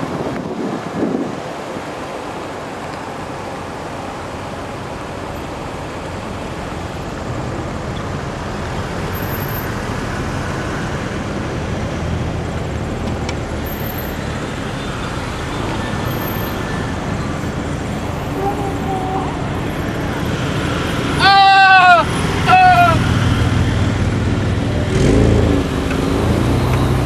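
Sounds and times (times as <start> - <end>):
slow car traffic rumble: 0.0 - 27.0.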